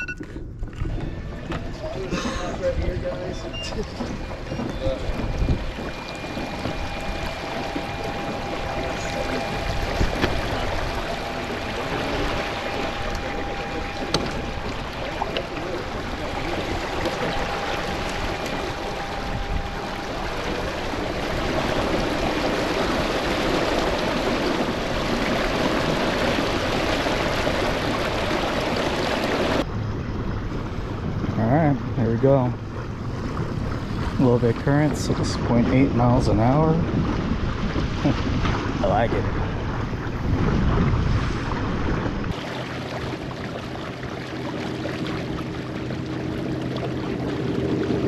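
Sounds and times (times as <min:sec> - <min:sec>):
wind noise: 0:00.0 - 0:44.6
water rushing around kayak: 0:00.0 - 0:48.0.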